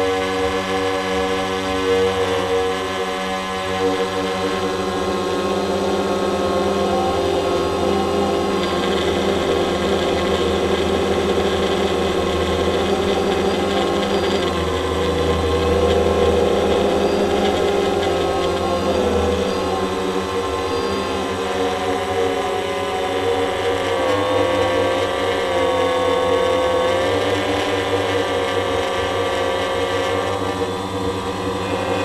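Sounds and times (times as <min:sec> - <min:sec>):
drone propellers buzzing: 0:00.0 - 0:32.0.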